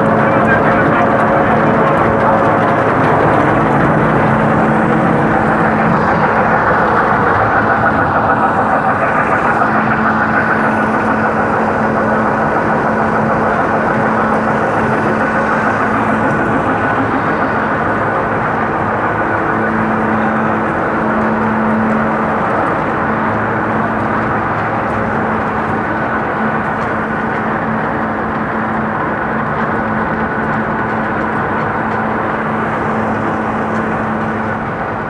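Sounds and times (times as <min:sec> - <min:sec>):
low machine hum: 0:00.0 - 0:35.0
machinery droning: 0:00.0 - 0:35.0.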